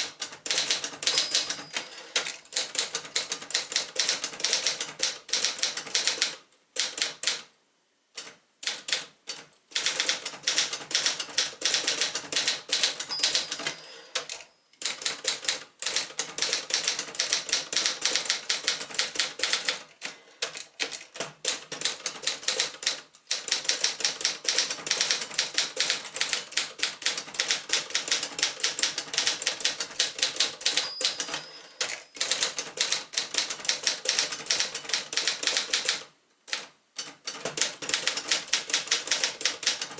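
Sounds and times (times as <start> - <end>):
manual typewriter keystrokes: 0.0 - 7.5, 8.2 - 39.9.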